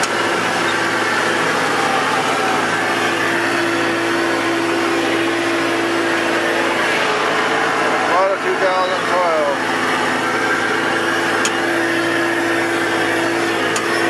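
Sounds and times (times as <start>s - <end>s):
engine running inside cab: 0.0s - 14.0s
steady humming tone: 0.0s - 14.0s.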